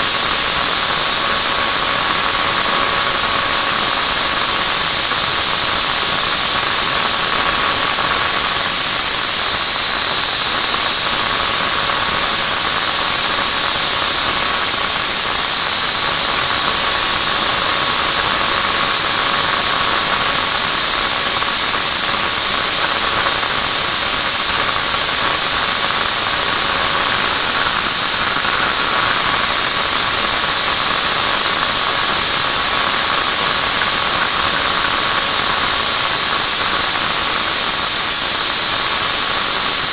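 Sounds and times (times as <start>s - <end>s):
angle grinder motor whining: 0.0s - 39.9s.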